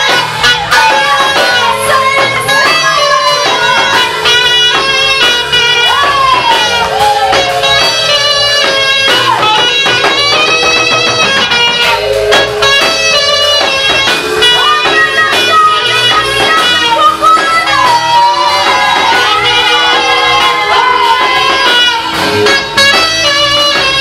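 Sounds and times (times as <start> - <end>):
gospel music: 0.0 - 24.0.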